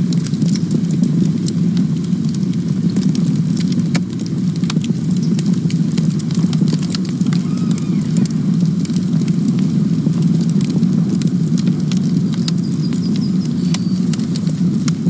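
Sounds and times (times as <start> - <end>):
burning wood crackling and popping: 0.0 - 15.0
campfire flames rumbling: 0.0 - 15.0.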